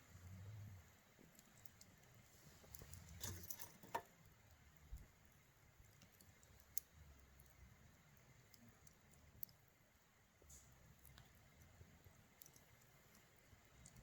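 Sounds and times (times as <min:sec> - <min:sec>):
campfire crackling and popping: 0:01.1 - 0:14.0.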